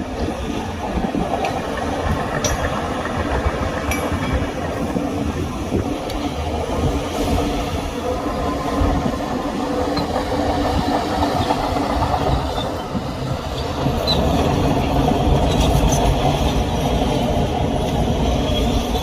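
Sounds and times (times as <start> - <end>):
diesel earthmoving machinery rumbling: 0.0 - 19.0.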